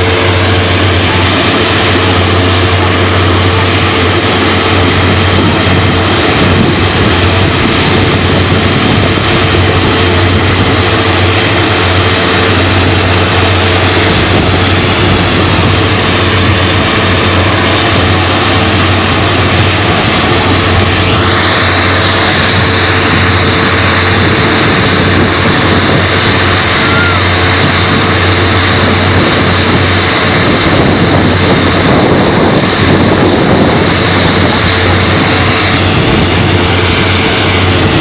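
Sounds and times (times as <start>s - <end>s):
turboprop engines roaring: 0.0s - 38.0s.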